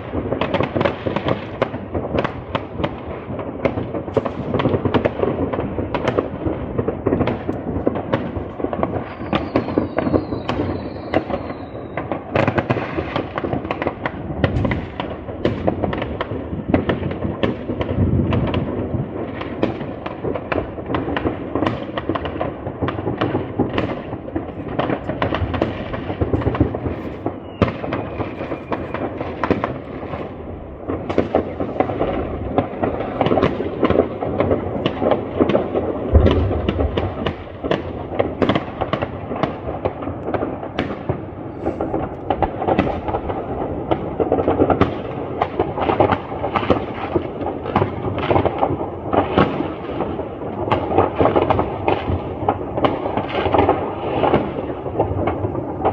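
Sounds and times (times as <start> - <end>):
deep firework boom: 0.0 - 50.1
fireworks crackling: 0.0 - 55.9.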